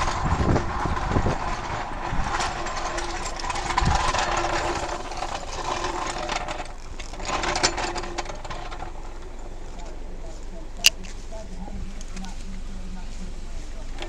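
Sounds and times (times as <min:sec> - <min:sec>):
engine running with mechanical hum: 0:00.0 - 0:14.0.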